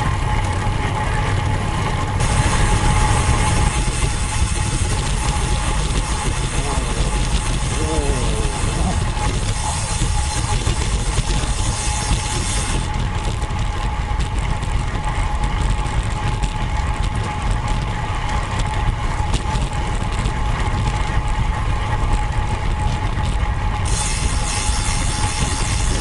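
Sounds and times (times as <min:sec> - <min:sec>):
thin steady whine: 0:00.0 - 0:26.0
wind and road noise rumble: 0:00.0 - 0:26.0.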